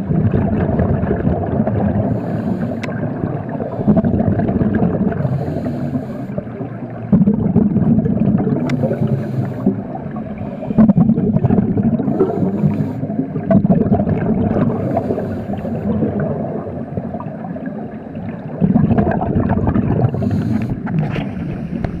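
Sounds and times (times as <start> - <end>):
underwater breath bubbles gurgling: 0.0 - 22.0.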